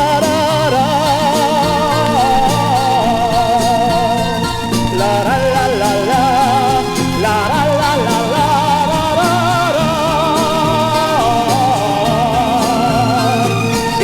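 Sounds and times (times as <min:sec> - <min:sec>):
romantic ballad from vinyl record: 0:00.0 - 0:14.0.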